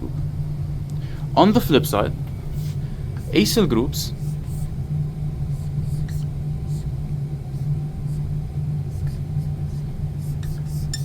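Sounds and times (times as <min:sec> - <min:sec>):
low rumble: 0:00.0 - 0:10.3
steady low hum: 0:00.0 - 0:11.0.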